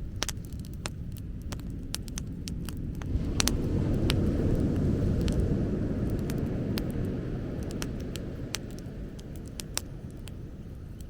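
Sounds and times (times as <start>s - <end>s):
bonfire crackling: 0.0s - 11.0s
fire pops: 0.0s - 11.0s
low rumble: 0.0s - 11.0s.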